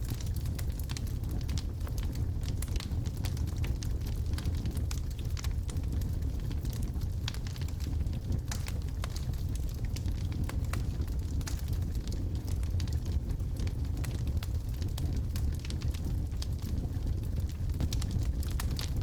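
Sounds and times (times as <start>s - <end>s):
burning wood crackling: 0.0s - 19.0s
fire rumbling: 0.0s - 19.0s.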